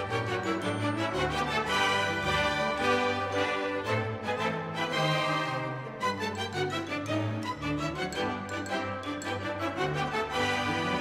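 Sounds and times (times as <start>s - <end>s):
instrumental music with sustained notes: 0.0s - 11.0s.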